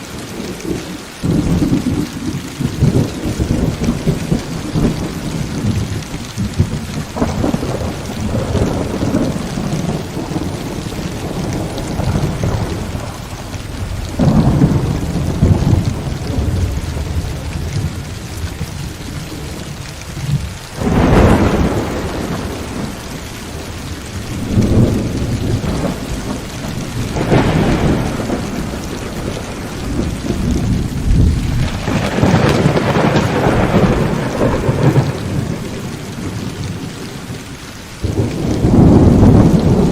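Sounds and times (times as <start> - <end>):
heavy rain falling: 0.0 - 39.9
thunder rumbling: 0.0 - 39.9
sharp thunder clap: 0.3 - 19.6, 20.4 - 37.4, 38.0 - 39.9.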